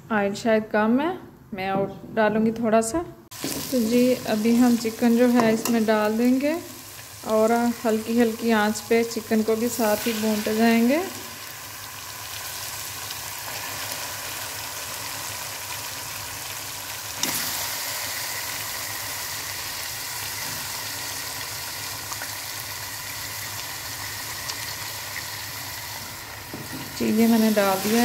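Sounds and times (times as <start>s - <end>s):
chicken sizzling in hot oil: 3.3s - 28.0s.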